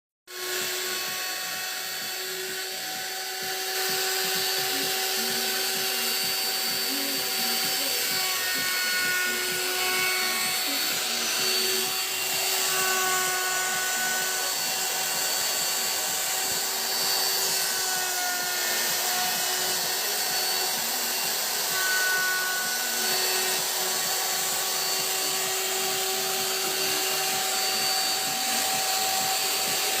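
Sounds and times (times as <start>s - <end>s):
hiss of wood cutting: 0.3s - 30.0s
wood lathe motor whine: 0.3s - 30.0s.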